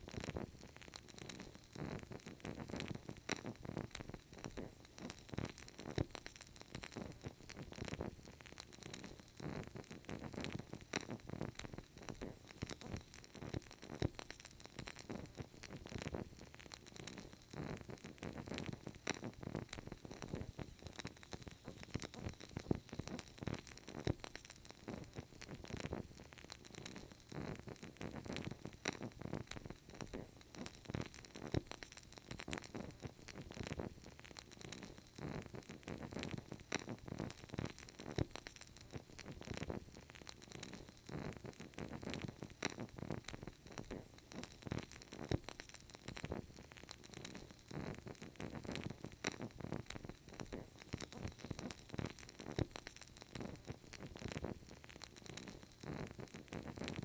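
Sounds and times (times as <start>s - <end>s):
candle wick crackling: 0.0s - 57.0s.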